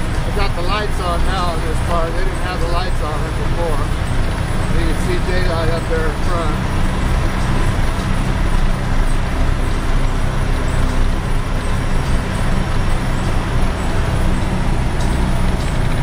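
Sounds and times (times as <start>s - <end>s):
diesel truck engine pulling: 0.0s - 16.0s
road noise: 0.0s - 16.0s.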